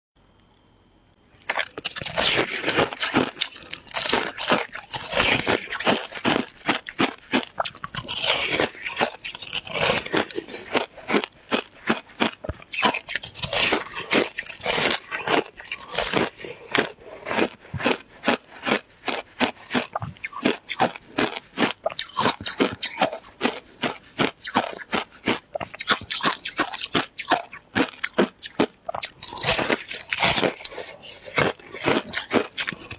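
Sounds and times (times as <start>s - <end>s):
crunching shaved ice: 1.4s - 32.9s.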